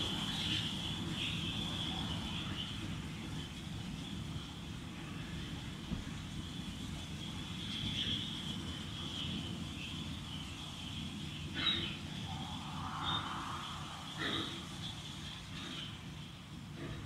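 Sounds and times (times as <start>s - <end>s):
steam hissing: 0.0s - 17.0s
steam locomotive low rumble: 0.0s - 17.0s.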